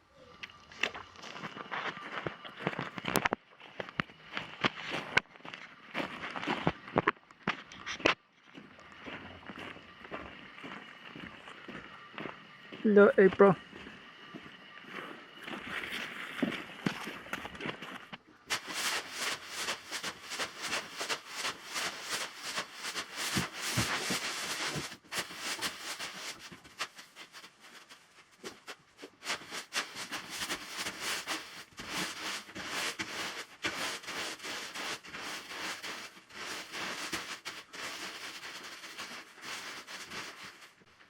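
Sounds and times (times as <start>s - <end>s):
rustling and crunching crackles: 0.1s - 41.0s.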